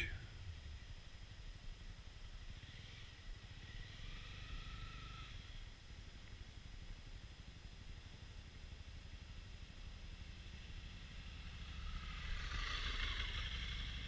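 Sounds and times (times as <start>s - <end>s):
motorcycle engine low rumble: 0.0s - 14.0s.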